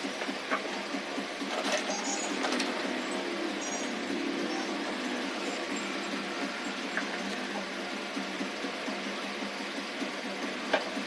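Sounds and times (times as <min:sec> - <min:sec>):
electric fan whirring: 0:00.0 - 0:11.0.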